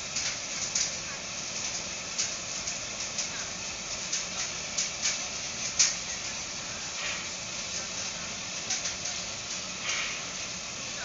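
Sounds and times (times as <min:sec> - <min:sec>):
burner flame hissing: 0:00.0 - 0:11.0
fire crackling: 0:00.0 - 0:11.0.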